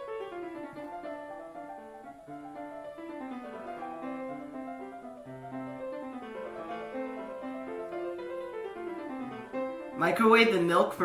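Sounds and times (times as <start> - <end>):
classical solo piano music: 0.0 - 11.0.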